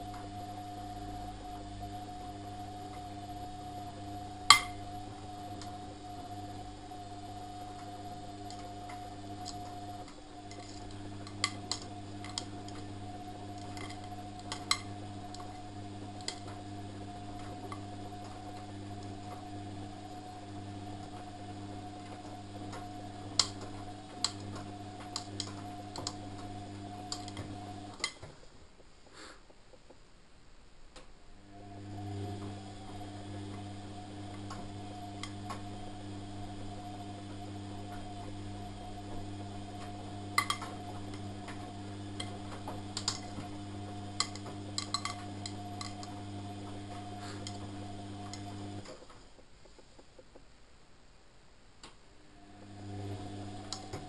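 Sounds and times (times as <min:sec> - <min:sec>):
washing machine motor hum: 0:00.0 - 0:28.4, 0:31.3 - 0:49.3, 0:52.2 - 0:54.0.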